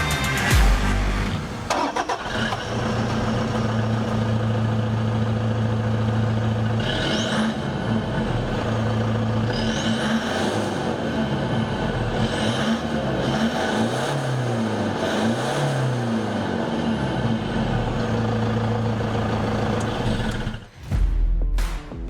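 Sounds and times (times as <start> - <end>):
diesel engine idling and revving: 0.0 - 20.8.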